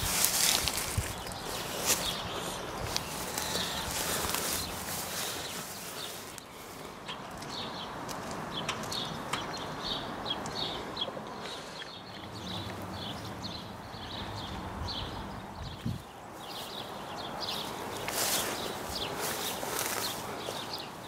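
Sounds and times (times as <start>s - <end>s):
low outdoor background hum: 0.0s - 21.0s
small birds chirping: 0.0s - 21.0s.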